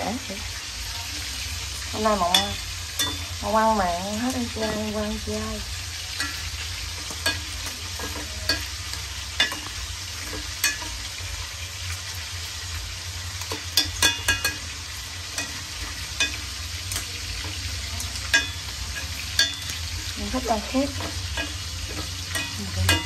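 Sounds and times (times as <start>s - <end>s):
meat sizzling in oil: 0.0s - 23.0s
metal tongs clinking on pot: 1.7s - 11.2s, 13.4s - 23.0s.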